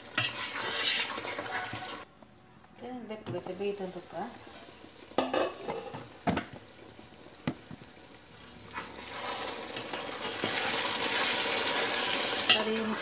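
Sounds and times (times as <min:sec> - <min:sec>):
masala sizzling in a pot: 0:00.0 - 0:02.2, 0:02.8 - 0:13.0.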